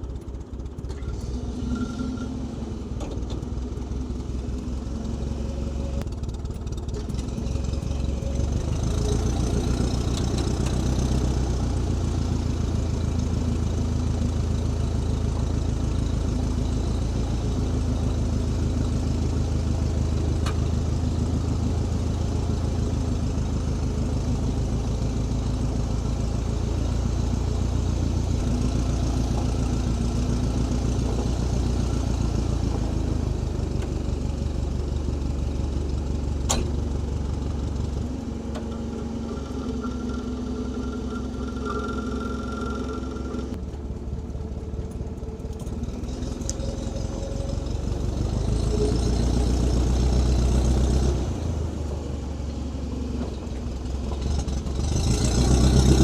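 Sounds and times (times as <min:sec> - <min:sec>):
machine engine running: 0:00.0 - 0:50.8.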